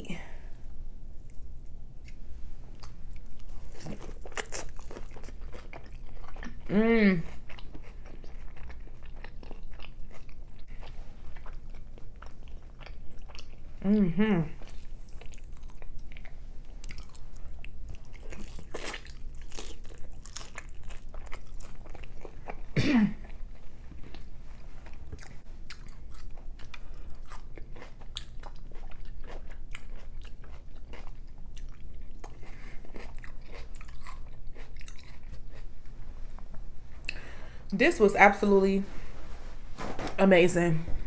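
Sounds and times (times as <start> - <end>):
biting and chewing tacos: 1.2 - 14.0, 14.6 - 37.2.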